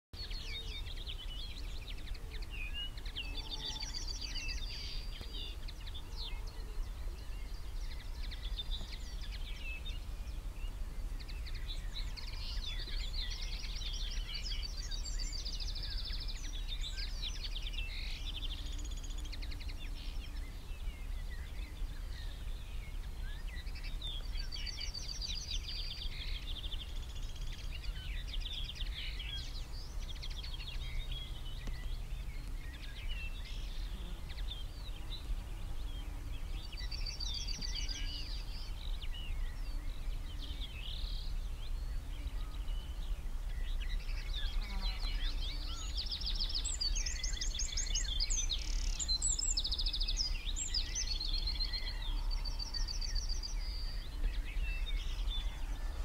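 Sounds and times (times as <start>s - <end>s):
birds chirping and trilling: 0.2s - 56.0s.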